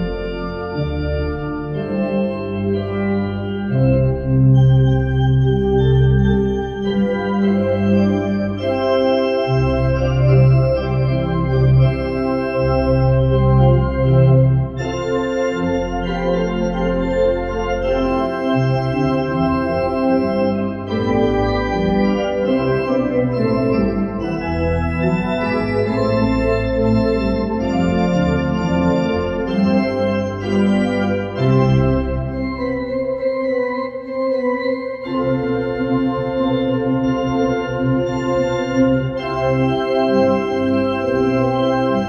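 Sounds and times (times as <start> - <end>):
church organ playing chords: 0.0 - 42.0.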